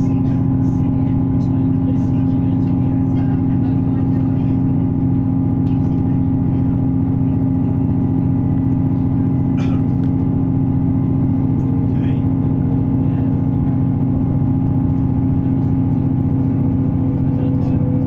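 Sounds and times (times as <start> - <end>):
droning hum: 0.0 - 18.0
train rumbling: 0.0 - 18.0.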